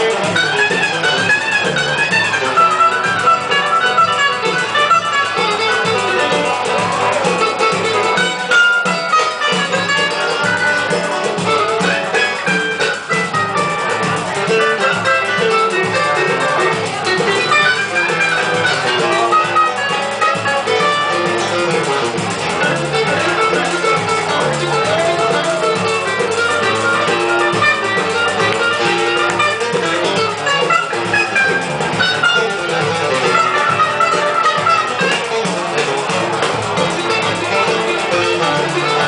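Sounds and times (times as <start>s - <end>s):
guitar and cavaquinho plucking: 0.0s - 39.0s
percussion rhythm: 0.0s - 39.0s.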